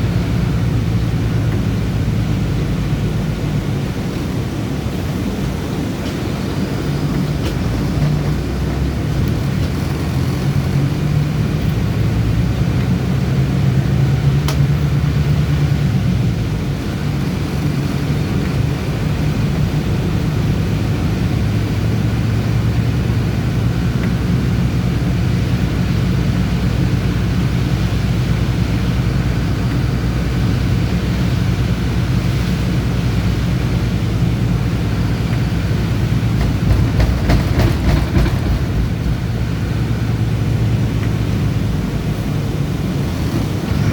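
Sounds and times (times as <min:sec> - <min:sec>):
bus engine droning: 0:00.0 - 0:43.9
road noise: 0:00.0 - 0:43.9.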